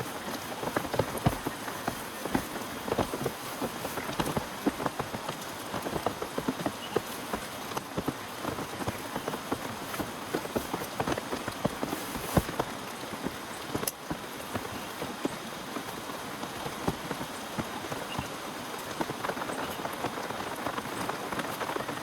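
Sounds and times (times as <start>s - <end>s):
heavy rain tapping on surface: 0.0s - 22.0s.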